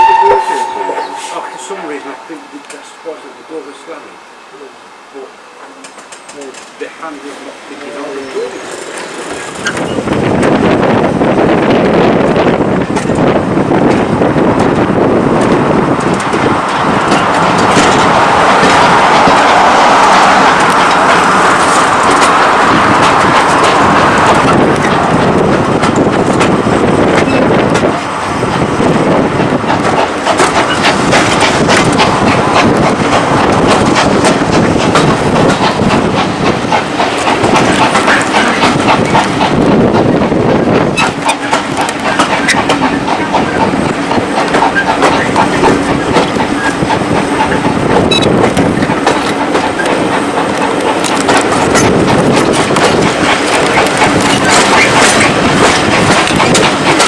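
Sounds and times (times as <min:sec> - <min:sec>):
railway carriage rushing noise: 0:00.0 - 0:57.0
wheels clicking over rails: 0:07.8 - 0:57.0.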